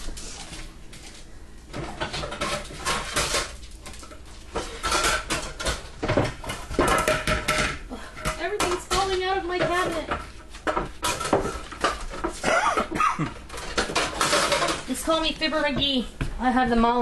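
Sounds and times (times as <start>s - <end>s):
plates and dishes clattering: 1.7s - 15.9s.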